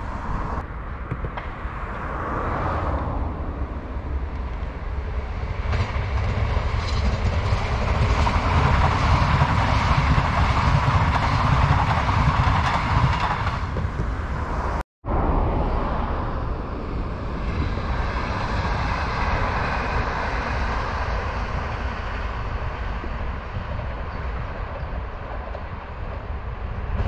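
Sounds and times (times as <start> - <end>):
electric train passing: 1.6 - 27.0.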